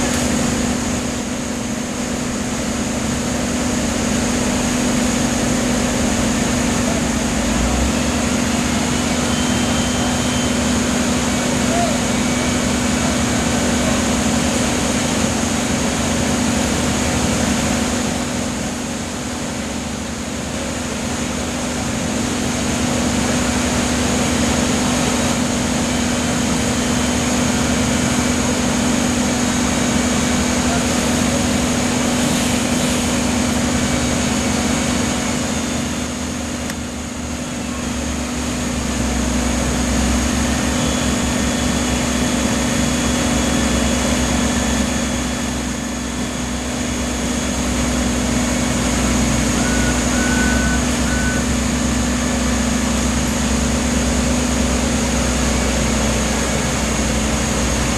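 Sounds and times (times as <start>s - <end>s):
wood chipper engine drone: 0.0s - 57.9s.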